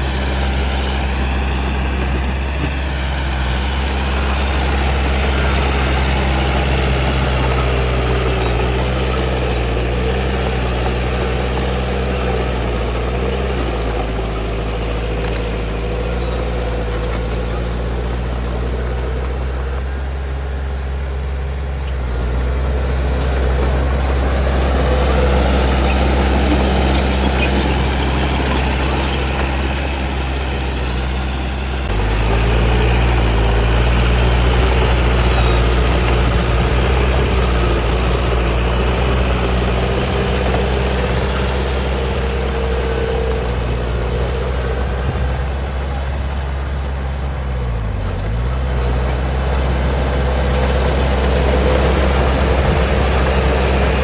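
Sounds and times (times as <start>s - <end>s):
construction machine diesel engine: 0.0s - 54.0s.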